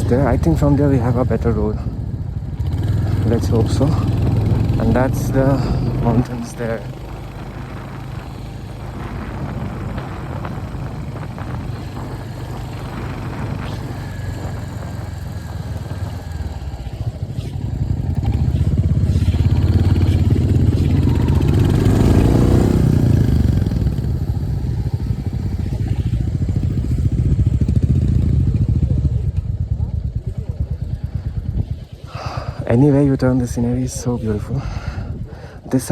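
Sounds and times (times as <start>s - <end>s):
motorcycle engine rumble: 0.0s - 35.9s.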